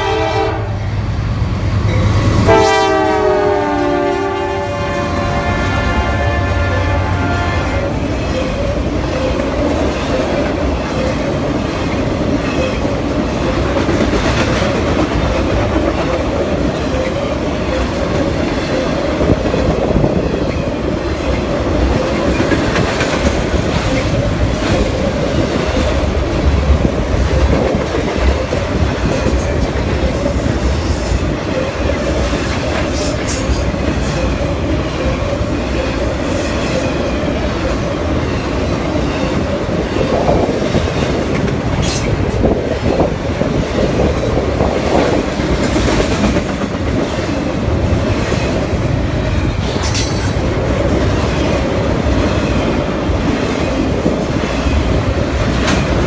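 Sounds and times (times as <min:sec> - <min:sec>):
train wheels rumbling on rails: 0:00.0 - 0:56.0
clickety-clack over rail joints: 0:08.0 - 0:56.0.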